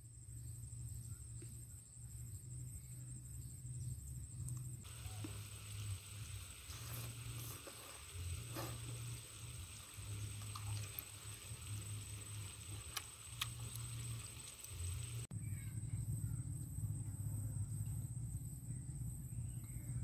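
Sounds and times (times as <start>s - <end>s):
insect whine: 0.0s - 20.0s.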